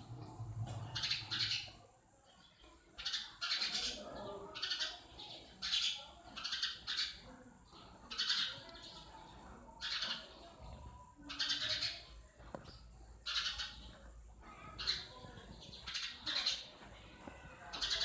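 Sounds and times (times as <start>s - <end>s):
faint high-pitched tone: 0.0s - 18.0s
sparrows chirping: 0.0s - 18.0s.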